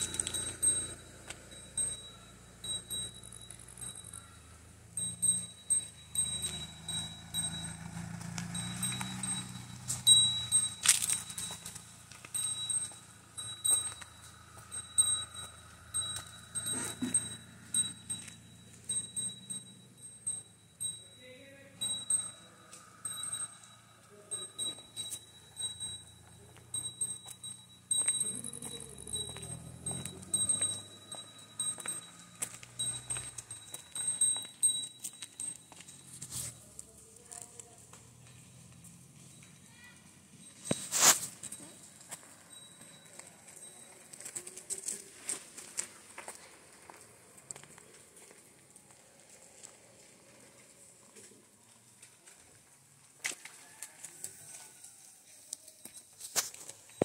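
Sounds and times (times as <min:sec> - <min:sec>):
cattle bells ringing: 0:00.0 - 0:50.5
slow car engine hum: 0:00.0 - 0:54.4.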